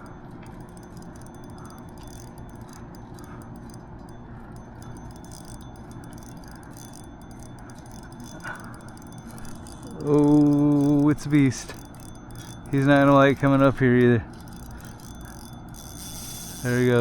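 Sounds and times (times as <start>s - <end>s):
fishing reel ticking: 0.0s - 17.0s.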